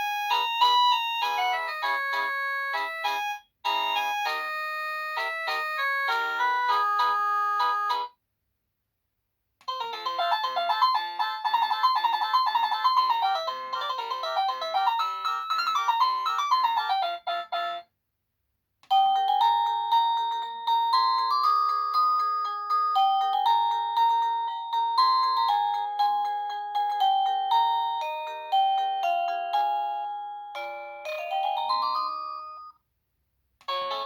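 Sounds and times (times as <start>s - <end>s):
electronic doorbell ringtones: 0.0s - 8.1s, 9.7s - 17.9s, 18.9s - 32.8s, 33.7s - 34.0s.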